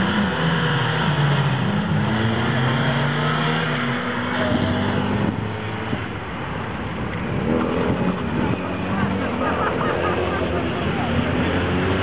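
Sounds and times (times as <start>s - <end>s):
car engine revving: 0.0s - 12.0s
steady outdoor noise: 0.0s - 12.0s.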